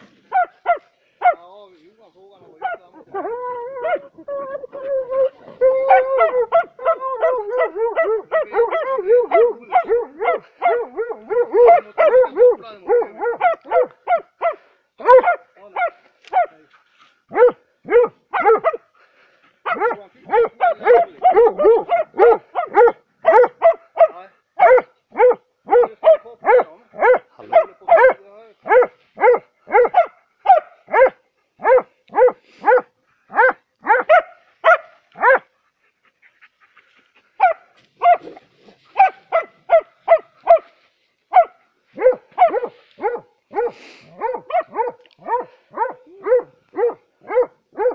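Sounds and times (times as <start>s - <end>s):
dogs barking: 0.2s - 1.5s, 2.4s - 16.6s, 17.3s - 18.9s, 19.6s - 35.6s, 37.2s - 47.9s.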